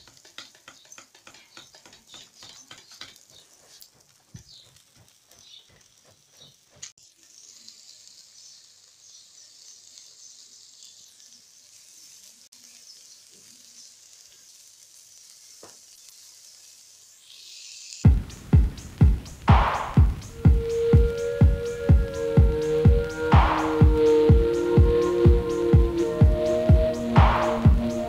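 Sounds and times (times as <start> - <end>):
meat sizzling on grill: 0.0 - 23.2.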